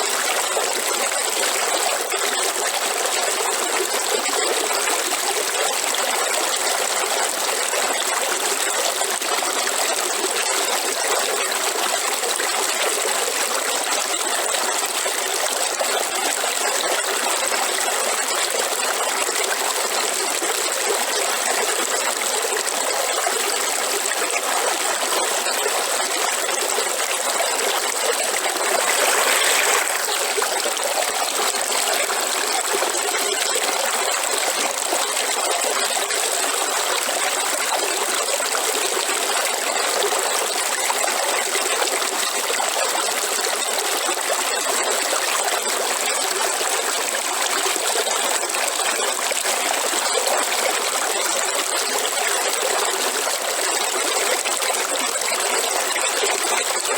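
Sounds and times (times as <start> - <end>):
river water over stones: 0.0 - 56.9.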